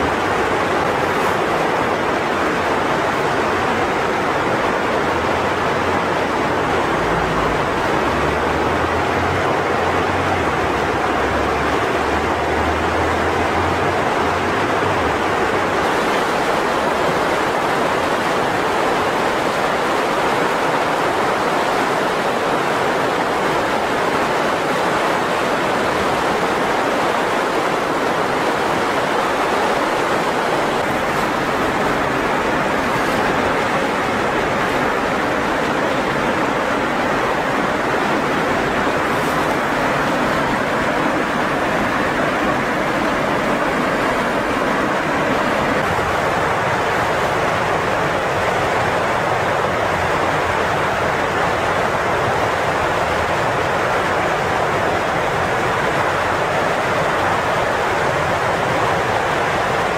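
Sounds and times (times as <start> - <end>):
river rushing through rapids: 0.0 - 59.9.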